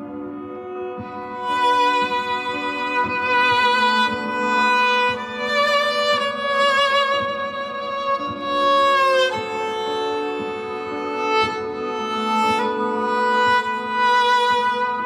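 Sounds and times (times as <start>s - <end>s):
layered bowed viola: 0.0s - 15.0s.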